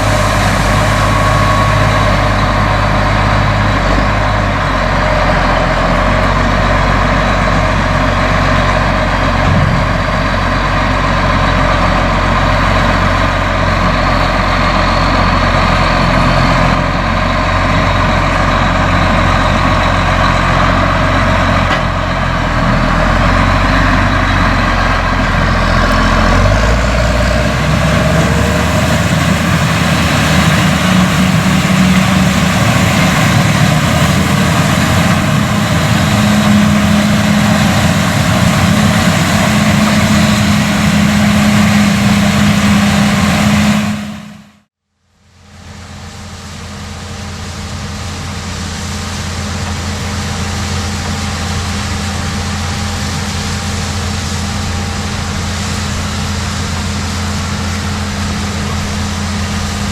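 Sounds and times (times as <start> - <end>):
combine machinery working: 0.0 - 44.6, 45.6 - 59.9
tractor diesel engine running: 0.0 - 59.9.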